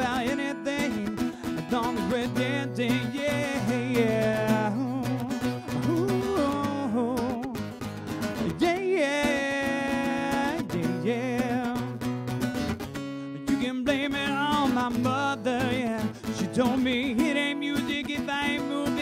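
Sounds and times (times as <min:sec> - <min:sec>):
bending guitar melody: 0:00.0 - 0:19.0.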